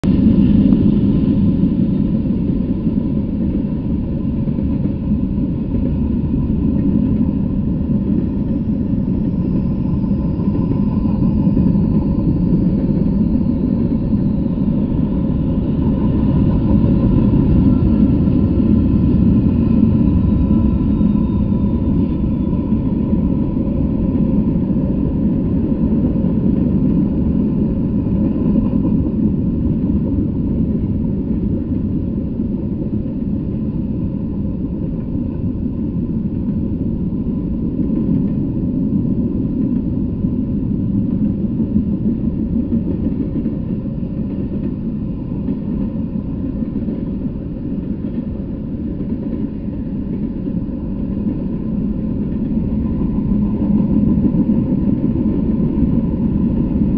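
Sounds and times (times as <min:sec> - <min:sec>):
freight train wheels rumbling on rails: 0:00.0 - 0:56.9.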